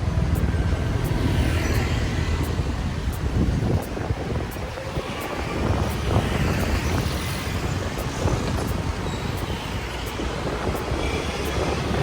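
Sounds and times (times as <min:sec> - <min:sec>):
wind and road noise on motorbike: 0:00.0 - 0:12.0.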